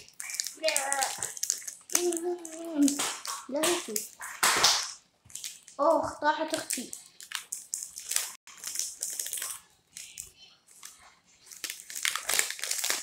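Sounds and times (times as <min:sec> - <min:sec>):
plastic wrapper crackling: 0:00.0 - 0:13.0.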